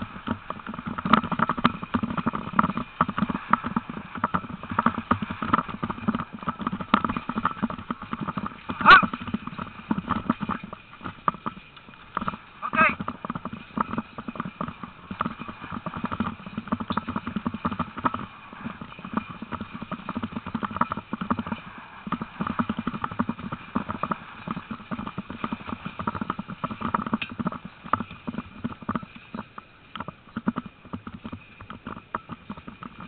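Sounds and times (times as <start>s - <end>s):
dogs' paws and gear clattering: 0.0s - 33.0s.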